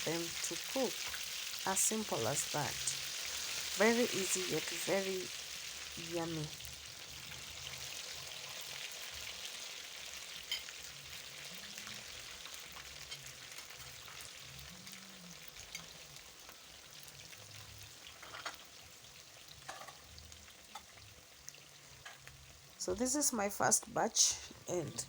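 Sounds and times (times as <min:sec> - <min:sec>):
potato wedges deep-frying in oil: 0:00.0 - 0:25.0.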